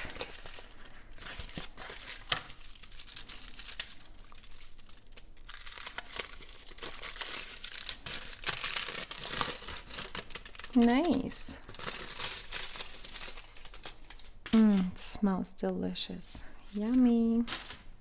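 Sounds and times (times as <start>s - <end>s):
wrapper crackling and rustling: 0.0s - 15.2s, 16.6s - 18.0s.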